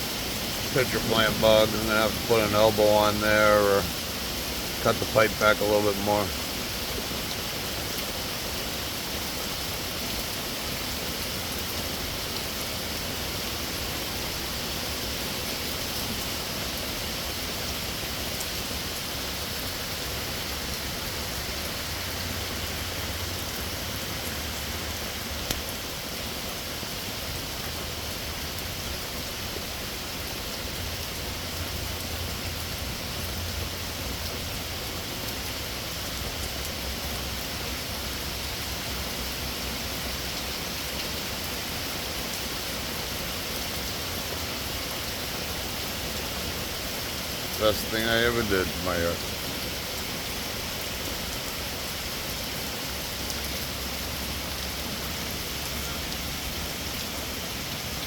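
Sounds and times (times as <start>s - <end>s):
heavy rain falling: 0.0s - 58.0s
water pouring from a downspout: 0.0s - 58.0s.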